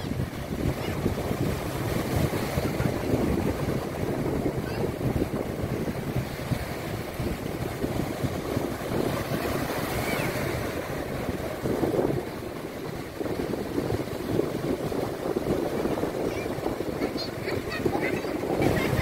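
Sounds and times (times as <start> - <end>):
waves washing up a beach: 0.0 - 19.0
wind rumbling on microphone: 0.0 - 19.0.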